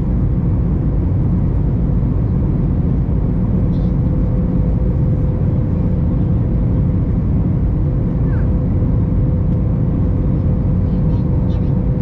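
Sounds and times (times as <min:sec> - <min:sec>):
airliner cabin roar: 0:00.0 - 0:12.0
steady hum: 0:00.0 - 0:12.0.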